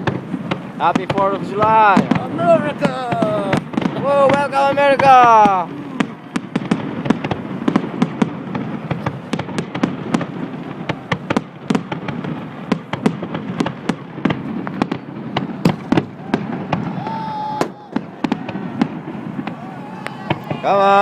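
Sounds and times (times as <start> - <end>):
firework whistling tone: 0.0 - 21.0
fireworks crackle: 0.0 - 21.0
fireworks popping and banging: 0.0 - 21.0.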